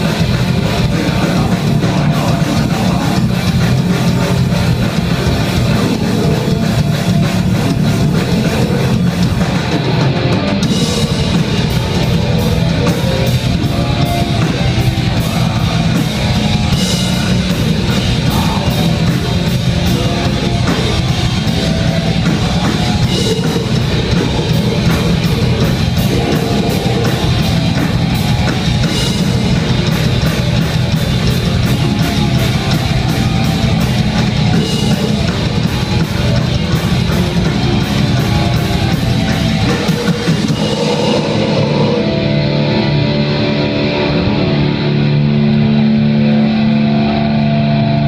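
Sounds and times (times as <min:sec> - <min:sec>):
drum kit with cymbal beat: 0:00.0 - 0:43.9
bass guitar: 0:00.0 - 0:48.0
distorted electric guitars: 0:00.0 - 0:48.0.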